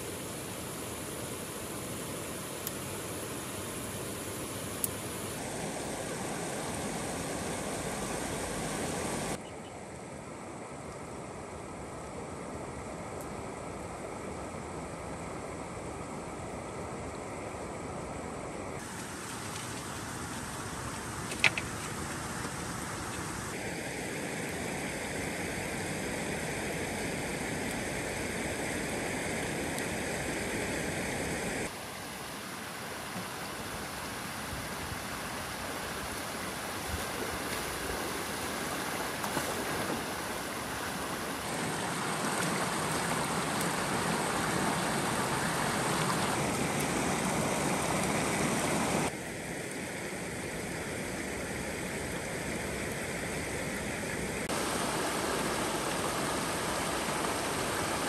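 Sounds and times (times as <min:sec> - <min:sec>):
rushing water: 0:00.0 - 0:09.4, 0:18.8 - 0:58.0.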